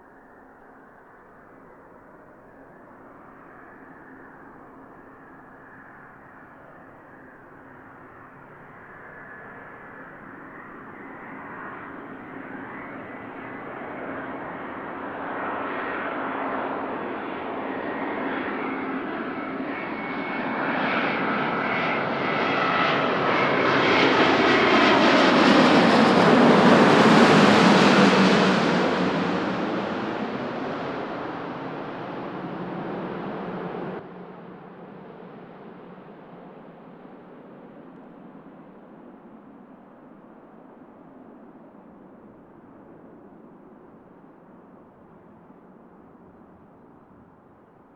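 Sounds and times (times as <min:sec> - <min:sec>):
jet airliner roar and whine: 0:00.0 - 0:47.9.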